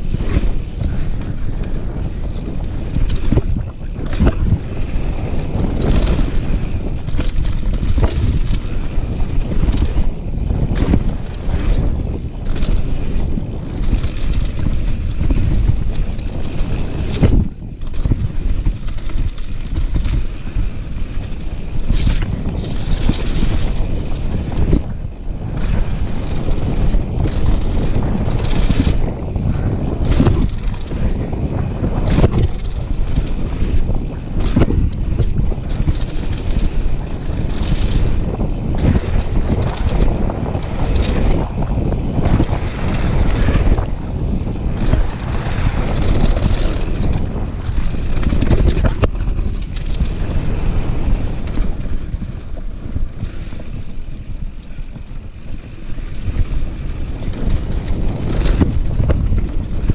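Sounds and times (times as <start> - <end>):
bike frame and chain rattling: 0.0 - 59.9
bike tyres rumbling on dirt: 0.0 - 59.9
wheels knocking on bumps: 0.0 - 59.9
wind rushing over microphone: 0.0 - 59.9.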